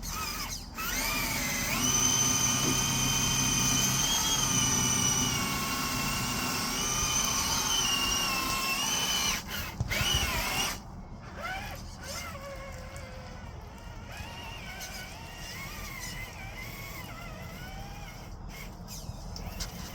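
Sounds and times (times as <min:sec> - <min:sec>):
small electric motor whining: 0:00.0 - 0:19.9.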